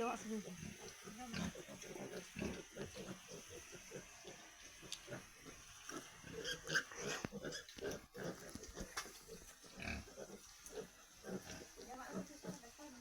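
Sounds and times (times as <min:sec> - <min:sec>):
pigs grunting: 0:00.2 - 0:12.7.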